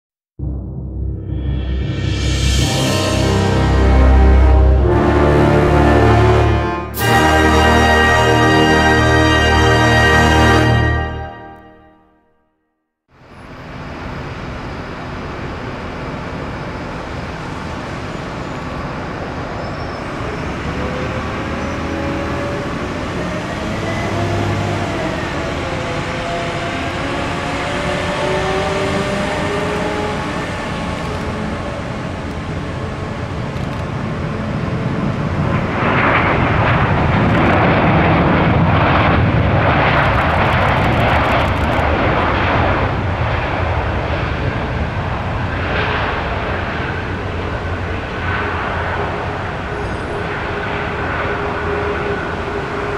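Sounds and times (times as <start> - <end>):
jet airliner landing: 0.4 - 12.0, 13.2 - 52.9.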